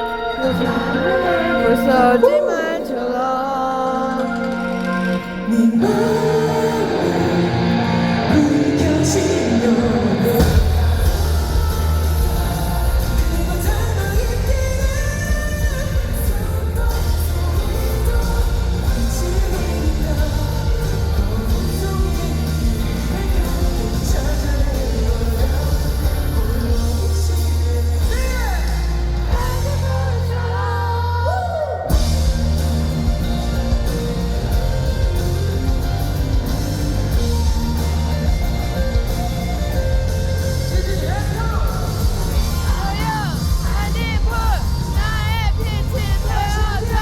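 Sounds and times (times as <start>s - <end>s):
electric guitar: 0.0s - 47.0s
pop-rock song with bass and drums: 0.0s - 47.0s.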